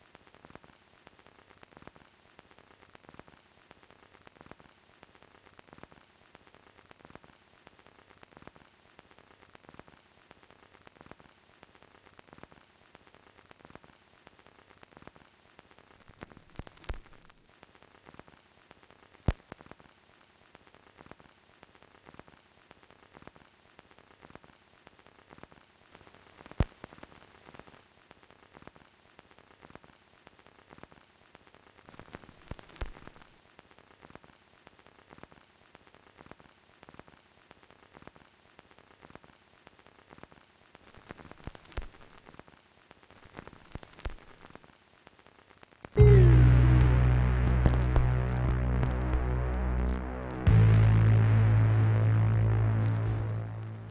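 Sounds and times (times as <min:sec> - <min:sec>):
crackle and hiss with pops: 0:00.0 - 0:53.9.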